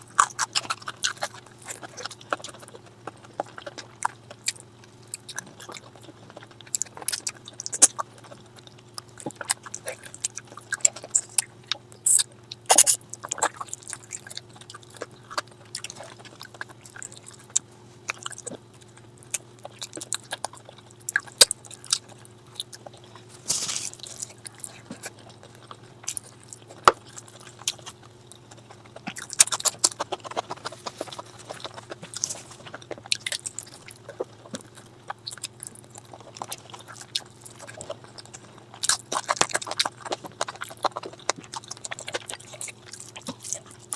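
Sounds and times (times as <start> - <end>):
person chewing and smacking: 0.0 - 43.9
steady low hum: 0.0 - 43.9.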